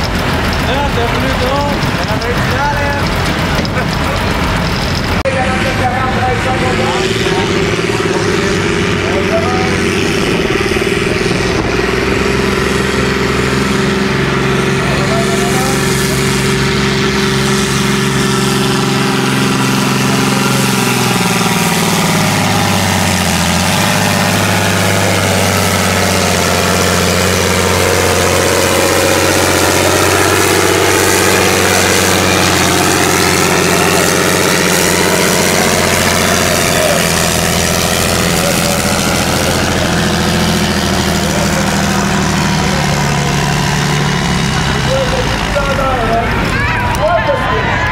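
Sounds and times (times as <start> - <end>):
tractor diesel engine droning: 0.0 - 47.9.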